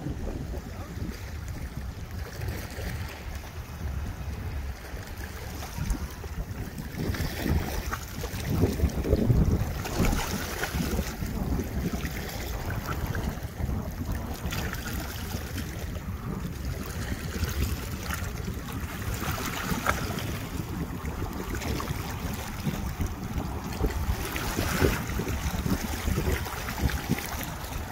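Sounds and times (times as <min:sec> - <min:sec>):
waves lapping against rocks: 0:00.0 - 0:27.9
wind buffeting microphone: 0:00.0 - 0:27.9.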